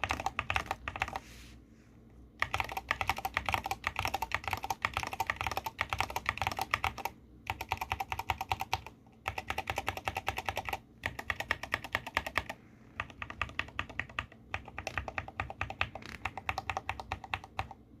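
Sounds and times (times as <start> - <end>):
mechanical keyboard clicking: 0.0 - 1.2, 2.4 - 17.8.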